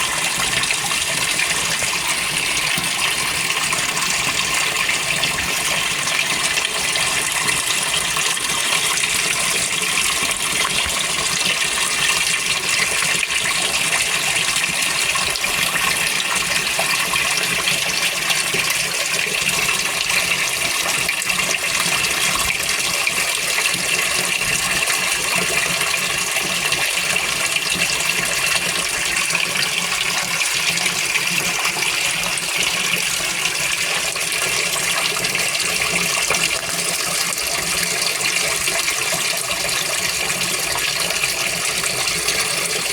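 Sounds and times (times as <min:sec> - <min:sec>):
water rushing into washer tub: 0:00.0 - 0:42.9.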